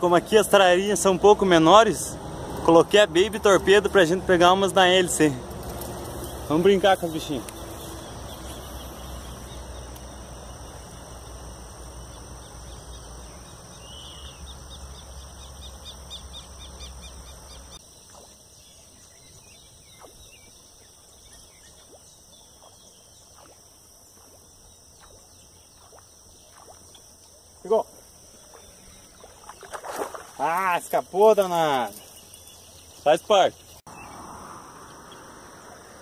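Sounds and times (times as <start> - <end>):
birds chirping: 0.0 - 23.6, 24.2 - 36.0
high insect whine: 0.5 - 36.0.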